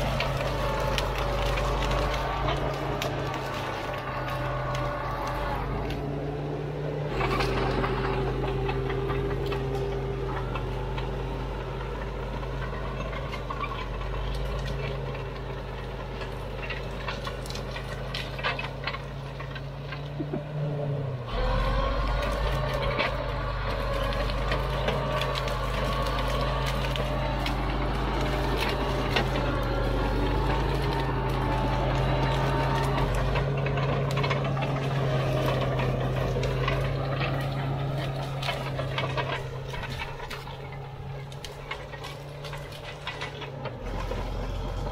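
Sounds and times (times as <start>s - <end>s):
brush cracking and clicking: 0.0s - 6.1s, 12.6s - 20.3s, 21.6s - 44.6s
bulldozer diesel engine running: 0.0s - 44.9s.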